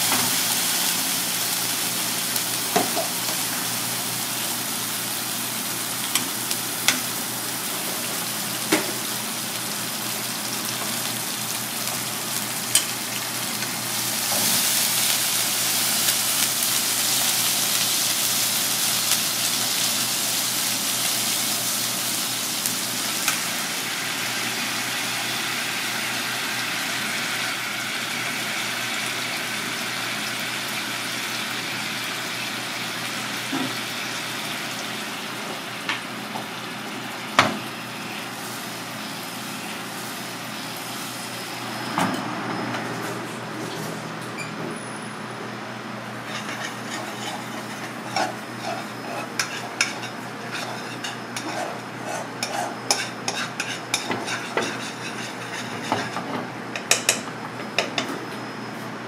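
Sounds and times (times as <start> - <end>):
aromatics sizzling in oil: 0.0 - 41.9, 46.0 - 57.8.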